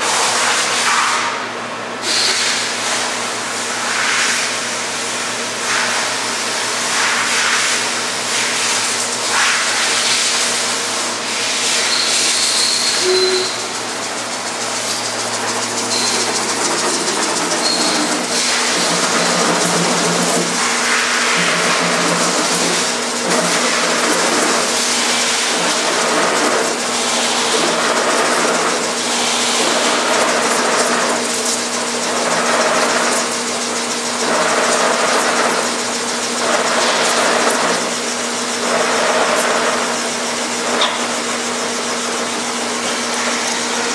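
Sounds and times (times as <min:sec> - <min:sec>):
rhythmic machine hiss: 0:05.6 - 0:43.9
machine motor hum: 0:06.0 - 0:43.9.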